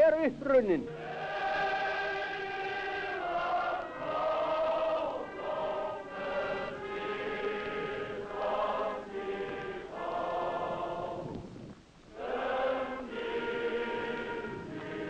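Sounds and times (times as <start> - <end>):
choir singing held chords: 0.8 - 15.0.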